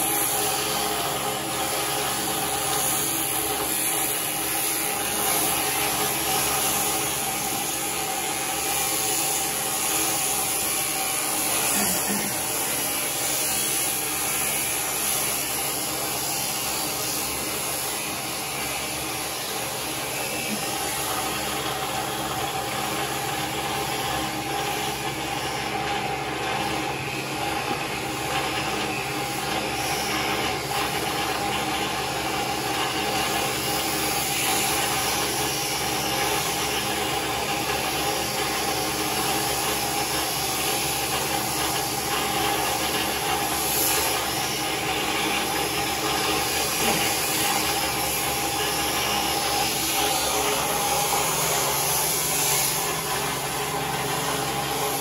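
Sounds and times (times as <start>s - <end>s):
electric sheep shears running: 0.0s - 55.0s.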